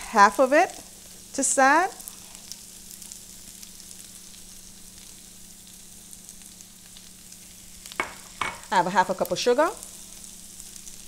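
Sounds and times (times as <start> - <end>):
vegetables sizzling in fat: 0.0 - 11.0.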